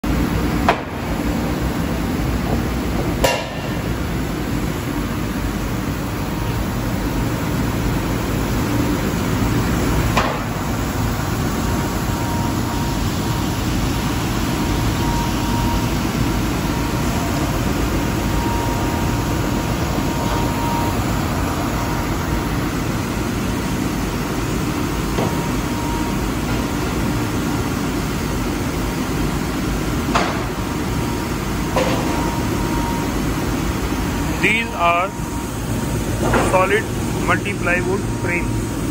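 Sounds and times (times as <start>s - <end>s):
woodworking machinery rumble: 0.0s - 38.9s.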